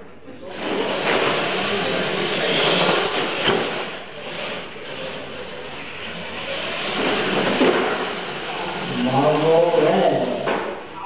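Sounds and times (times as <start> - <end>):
toy truck motors whining: 0.5 - 9.9.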